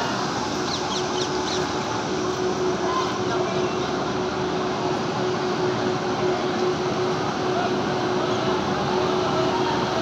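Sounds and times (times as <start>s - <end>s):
train running rumble: 0.0s - 10.0s.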